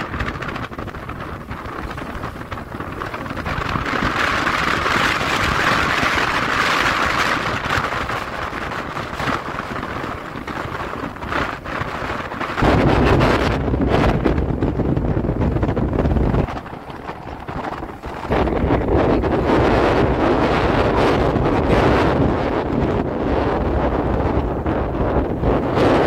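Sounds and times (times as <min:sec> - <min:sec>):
choppy water: 0:00.0 - 0:26.0
rushing wind: 0:00.0 - 0:26.0
wind buffeting microphone: 0:00.0 - 0:26.0.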